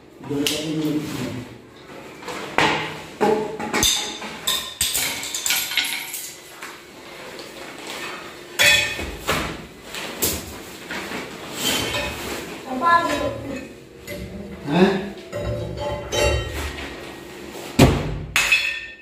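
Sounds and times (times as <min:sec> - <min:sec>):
kitchen utensils clattering: 0:02.1 - 0:17.7, 0:18.4 - 0:19.0.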